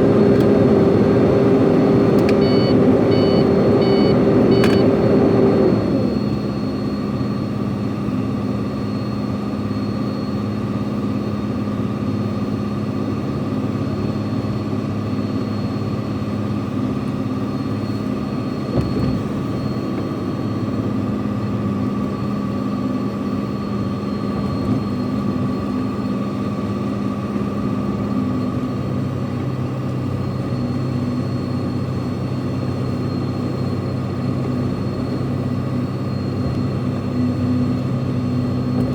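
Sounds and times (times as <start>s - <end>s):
truck engine heard from cab: 0.0s - 38.9s.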